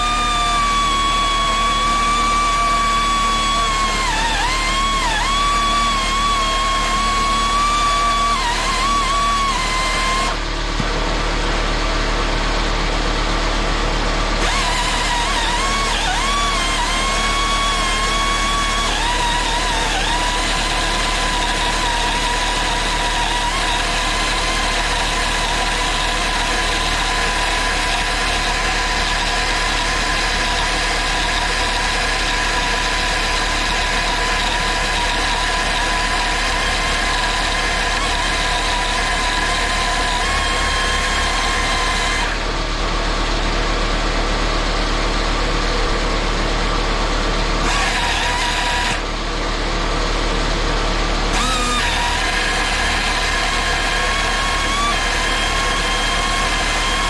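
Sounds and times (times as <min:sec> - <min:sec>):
angle grinder whining: 0:00.0 - 0:11.4, 0:13.7 - 0:43.6, 0:46.6 - 0:57.0.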